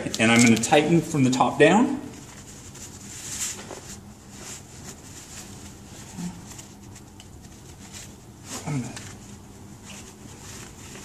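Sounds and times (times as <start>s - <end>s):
nylon straps rustling: 2.2s - 11.0s
soft scrapes: 2.2s - 11.0s.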